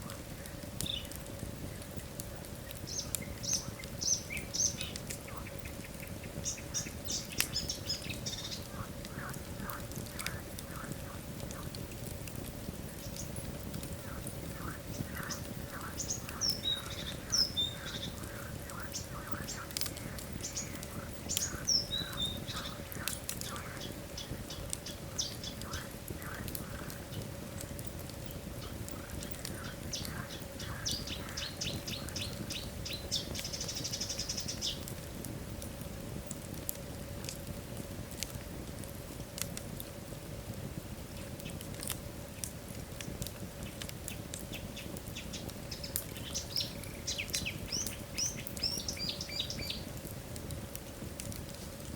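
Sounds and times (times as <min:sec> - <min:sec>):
fire hiss: 0:00.0 - 0:51.9
low rush of burning logs: 0:00.0 - 0:51.9
wood fire crackling and popping: 0:00.0 - 0:51.9.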